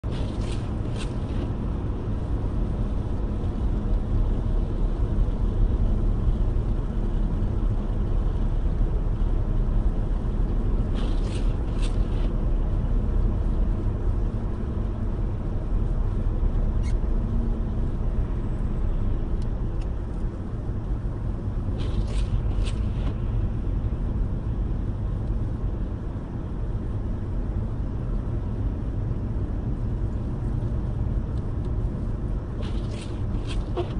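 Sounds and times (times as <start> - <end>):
car tyres rumbling on snow: 0.0 - 33.9.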